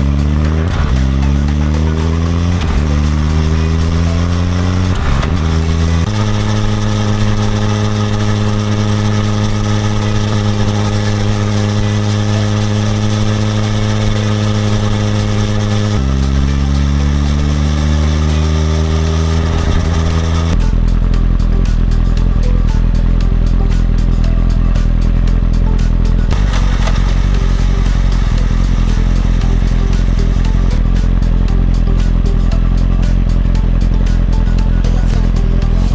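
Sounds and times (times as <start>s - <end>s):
motorcycle engine shifting gears: 0.0s - 35.9s.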